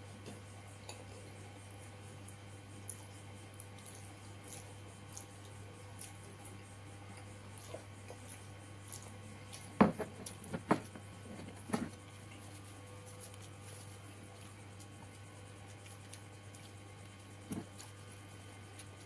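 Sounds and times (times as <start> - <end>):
chewing and lip-smacking: 0.2 - 19.0.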